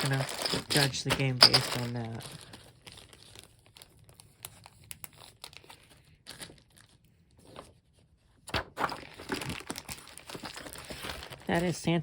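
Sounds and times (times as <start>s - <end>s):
plastic packaging crinkling: 0.0s - 7.3s, 8.8s - 12.0s.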